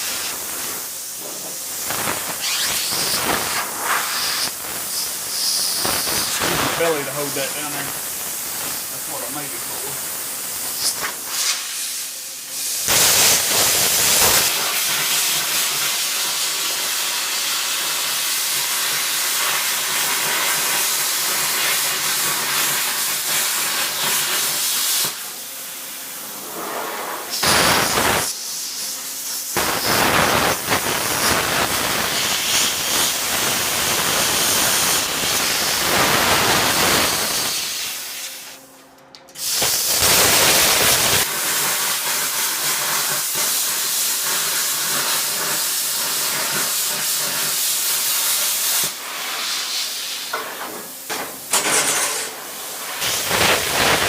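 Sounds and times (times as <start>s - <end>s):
plasma cutter hissing: 0.0s - 38.6s, 39.4s - 54.0s.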